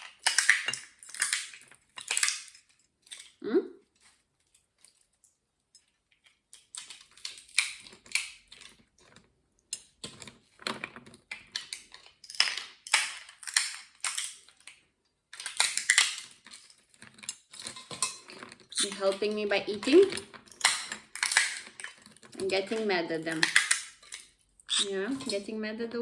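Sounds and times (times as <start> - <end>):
walnut shells cracking: 0.0 - 3.4, 6.2 - 25.4.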